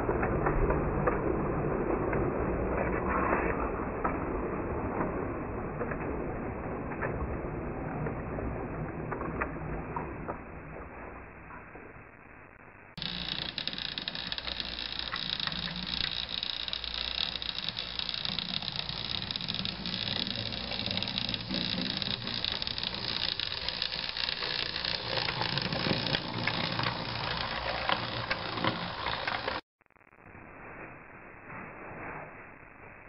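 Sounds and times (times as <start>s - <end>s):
model train whirring and rattling: 0.0s - 10.6s, 13.0s - 29.6s
wheels clicking on rails: 0.0s - 11.6s, 13.0s - 29.6s.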